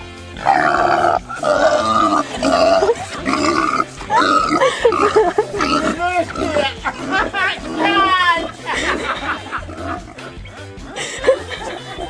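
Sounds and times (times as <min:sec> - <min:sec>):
pig squealing: 0:00.4 - 0:11.0.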